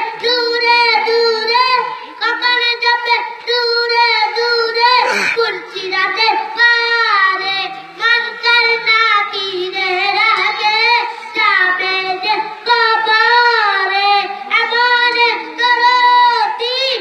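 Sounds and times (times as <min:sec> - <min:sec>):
boy singing: 0:00.0 - 0:17.0.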